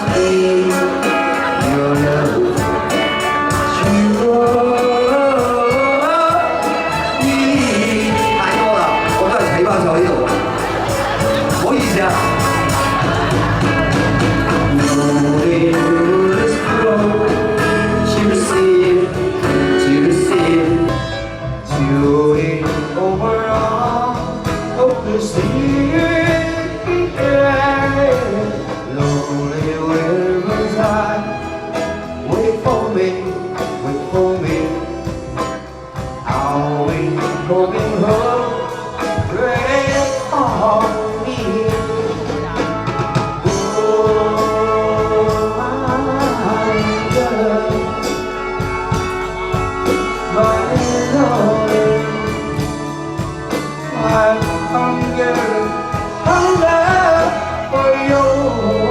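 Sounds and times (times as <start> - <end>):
live band playing pop song: 0.0 - 58.9
person singing: 0.0 - 58.9
steady drum beat: 0.0 - 58.9.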